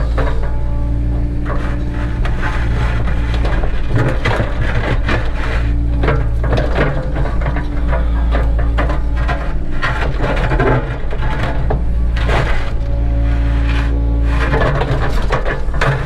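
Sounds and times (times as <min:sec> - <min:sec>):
digging scraping and clattering: 0:00.0 - 0:16.0
excavator diesel engine running: 0:00.0 - 0:16.0.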